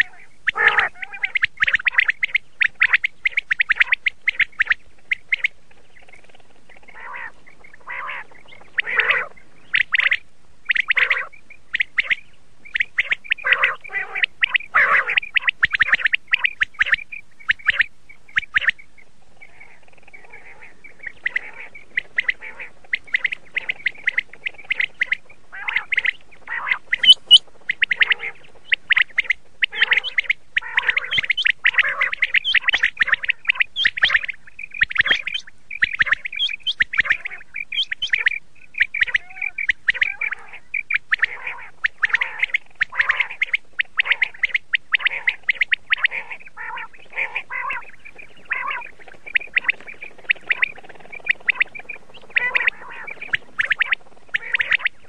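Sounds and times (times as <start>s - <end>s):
quail chirping calls: 0.0s - 55.0s.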